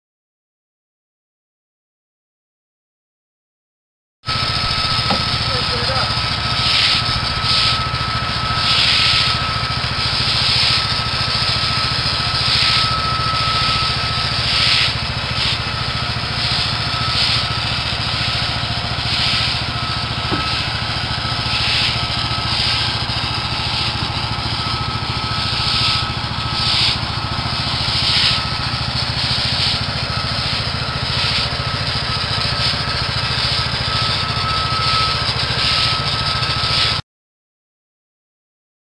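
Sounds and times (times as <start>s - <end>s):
small gas engine running: 4.3s - 37.0s
hose spray hissing on pavers: 4.4s - 37.0s.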